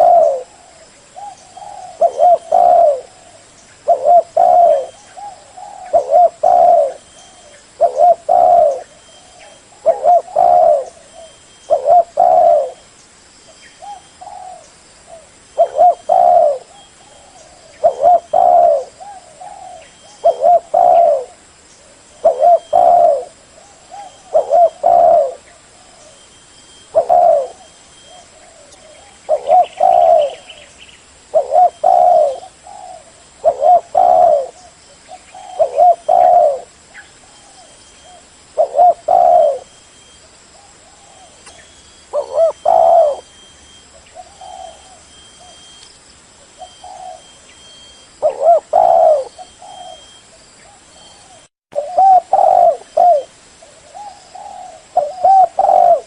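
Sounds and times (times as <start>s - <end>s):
dove cooing: 0.0s - 12.8s, 13.8s - 30.7s, 31.3s - 45.8s, 46.6s - 56.0s.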